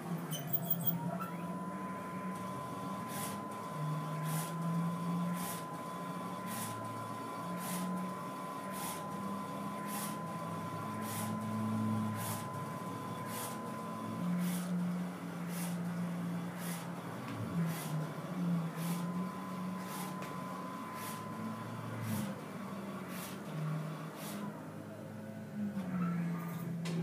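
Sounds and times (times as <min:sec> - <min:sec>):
printer high whine and low hum: 0:00.0 - 0:27.0.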